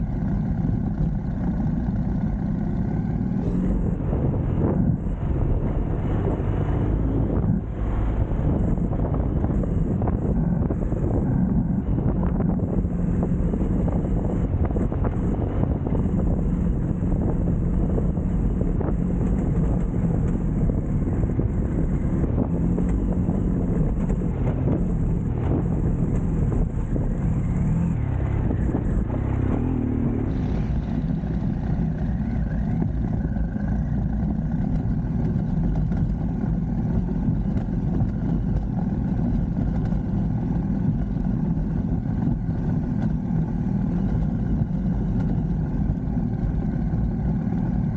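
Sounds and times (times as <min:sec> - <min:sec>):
road rumble: 0:00.0 - 0:47.9
vehicle engine running: 0:00.0 - 0:47.9
wind on microphone: 0:01.9 - 0:47.9.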